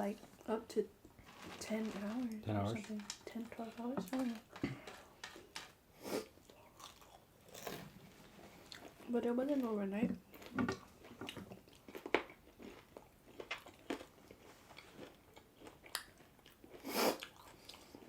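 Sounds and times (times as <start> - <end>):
chewing and crunching food: 1.1 - 18.0.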